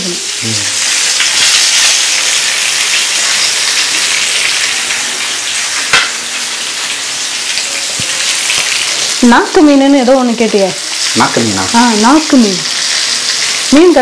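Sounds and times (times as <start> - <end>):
food deep-frying in hot oil: 0.0 - 14.0.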